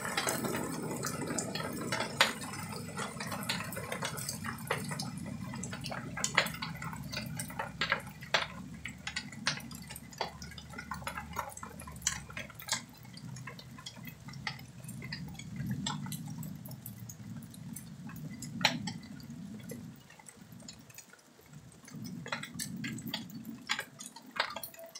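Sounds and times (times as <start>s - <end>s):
low steady noise: 0.0s - 24.9s
water dripping: 0.0s - 24.9s.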